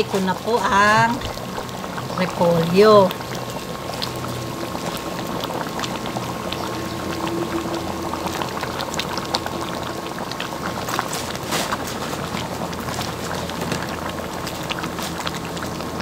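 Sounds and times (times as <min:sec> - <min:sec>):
stew bubbling in a pan: 0:00.0 - 0:16.0.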